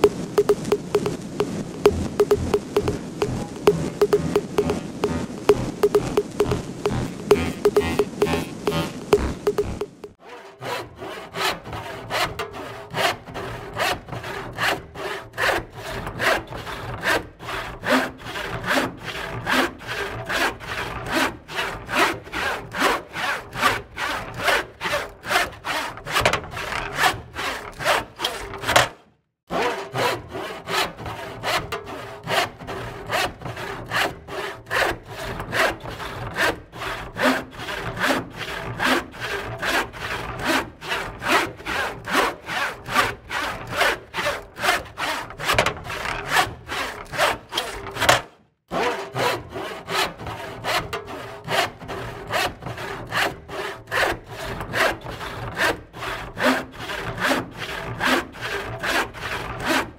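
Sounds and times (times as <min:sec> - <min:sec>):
hand saw cutting wood: 0:01.8 - 0:59.9.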